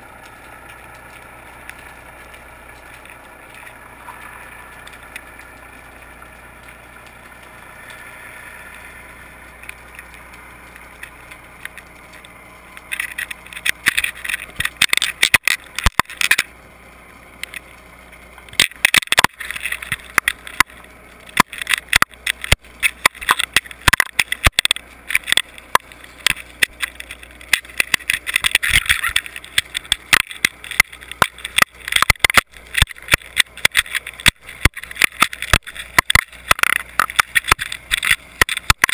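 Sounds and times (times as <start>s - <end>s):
faint underwater whine: 0.0s - 38.9s
sharp clicks and knocks: 0.0s - 38.9s
rattling and scraping: 0.3s - 16.6s, 17.4s - 38.9s.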